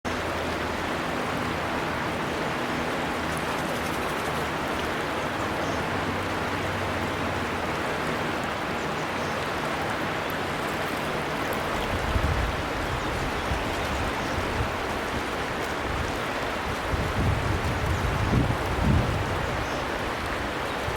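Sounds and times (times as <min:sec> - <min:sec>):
river water rushing: 0:00.1 - 0:20.9.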